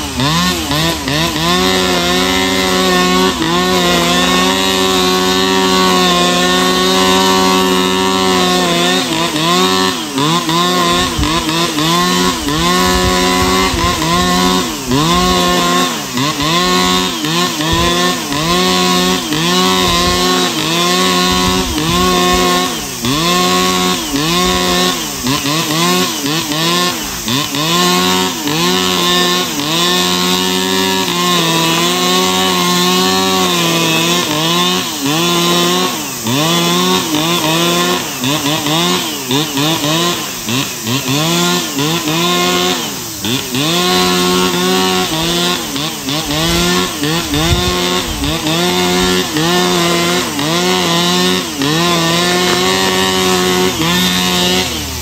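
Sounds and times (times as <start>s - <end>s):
brush cutter engine running: 0.0s - 55.0s.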